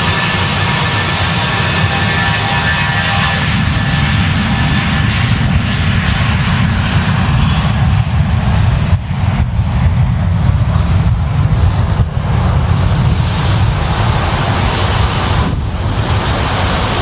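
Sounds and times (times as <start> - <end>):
jet engine whine: 0.0 - 17.0
jet engines rumbling: 0.0 - 17.0.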